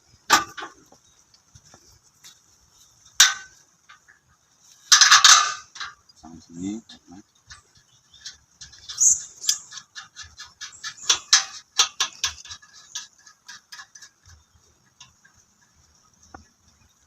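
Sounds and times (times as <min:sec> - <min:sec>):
sharp clicks and knocks of metal parts: 0:00.2 - 0:02.4, 0:03.1 - 0:04.2, 0:04.8 - 0:16.6.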